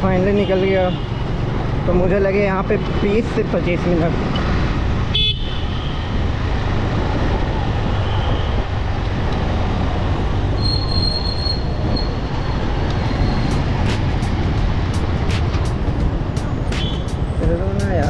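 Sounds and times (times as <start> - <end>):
motorcycle wind and engine noise: 0.0 - 18.0.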